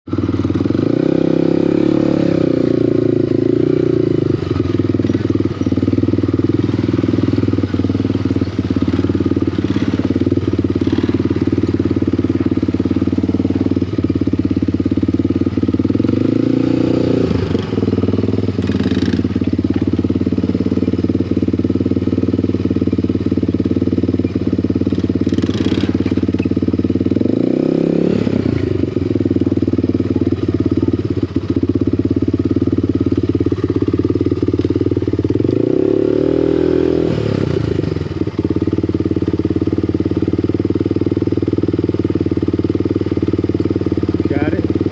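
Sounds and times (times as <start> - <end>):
small motorbike engine running: 0.1 - 44.9.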